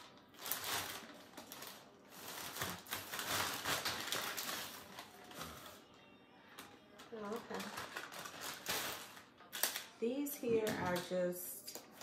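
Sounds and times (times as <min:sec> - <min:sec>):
plastic packaging crinkling: 0:00.0 - 0:06.0, 0:06.6 - 0:11.2.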